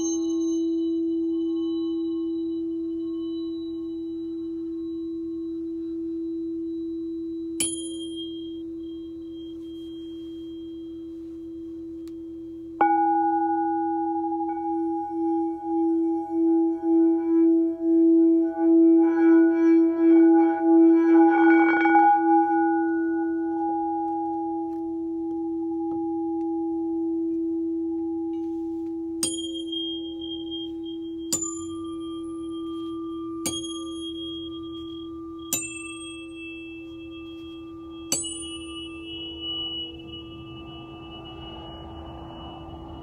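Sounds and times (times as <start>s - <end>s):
singing bowl ringing: 0.0s - 43.0s
tuning fork struck and ringing: 0.0s - 43.0s.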